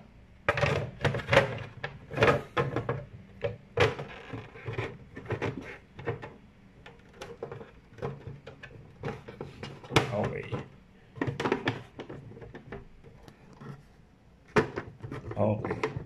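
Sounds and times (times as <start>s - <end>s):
plastic housing clicks and knocks: 0.5s - 13.2s, 14.5s - 16.0s.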